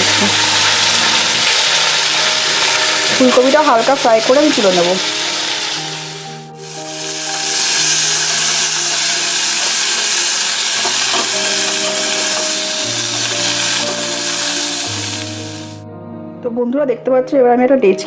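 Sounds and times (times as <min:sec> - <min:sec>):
cauliflower frying in hot oil: 0:00.0 - 0:15.8
background music with held notes: 0:00.0 - 0:18.0.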